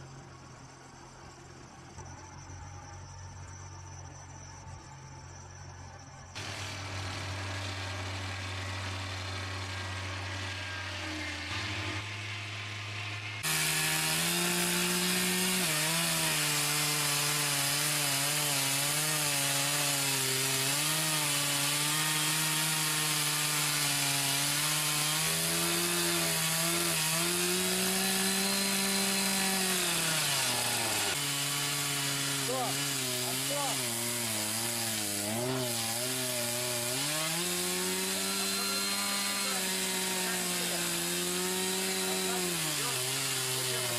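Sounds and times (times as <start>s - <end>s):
chainsaw cutting through log: 6.4s - 43.9s
sawmill humming: 6.4s - 43.9s.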